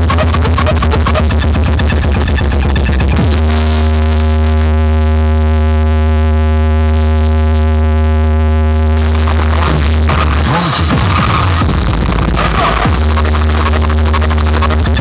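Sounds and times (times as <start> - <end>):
deep synth bass note: 0.0 - 15.0
noisy bass swoop: 0.0 - 15.0.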